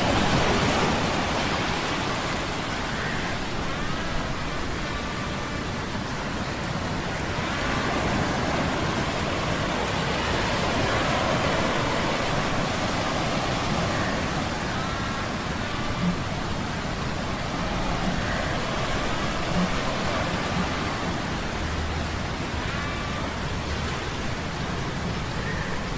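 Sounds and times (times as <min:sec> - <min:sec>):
sea storm rushing noise: 0:00.0 - 0:25.9.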